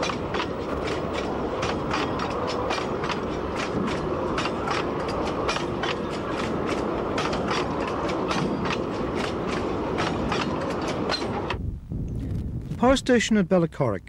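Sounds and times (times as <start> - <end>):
wheels clicking over rail joints: 0.0 - 11.6
train rumbling: 0.0 - 13.3.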